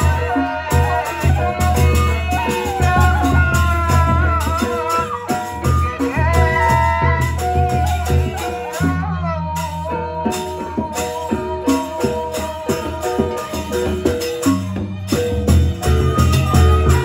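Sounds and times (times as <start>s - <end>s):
bamboo flute: 0.0s - 17.0s.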